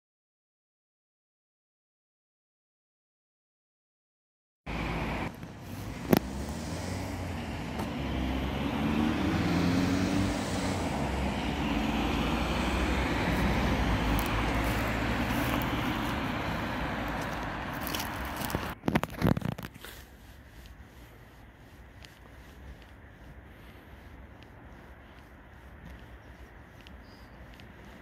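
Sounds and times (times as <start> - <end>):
cars passing on highway: 4.7 - 28.0.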